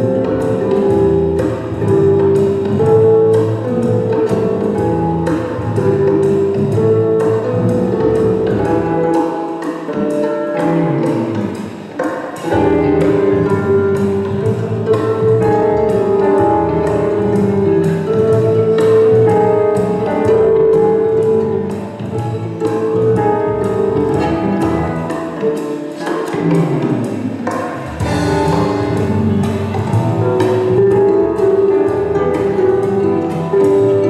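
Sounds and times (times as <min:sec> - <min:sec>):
plucked harp notes: 0:00.0 - 0:34.0
steady percussive beat: 0:00.0 - 0:34.0.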